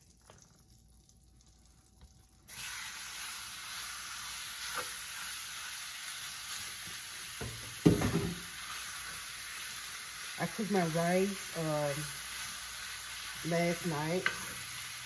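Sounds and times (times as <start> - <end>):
chicken sizzling in a pan: 2.5 - 15.0.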